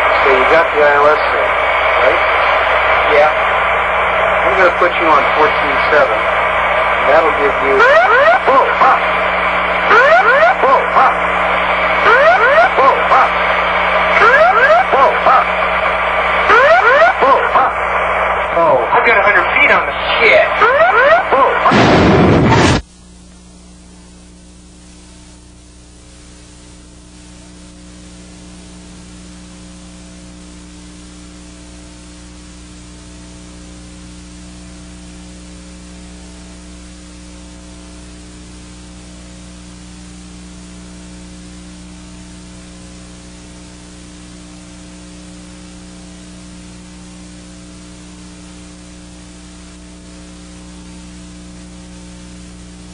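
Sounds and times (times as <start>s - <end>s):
low electrical hum: 0.0s - 52.9s
tape hiss: 0.0s - 52.9s.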